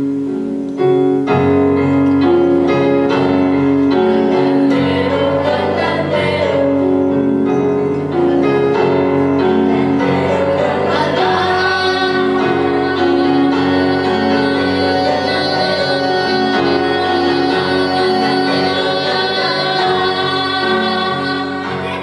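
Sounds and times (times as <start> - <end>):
keyboard accompaniment: 0.0 - 22.0
people singing: 2.7 - 22.0.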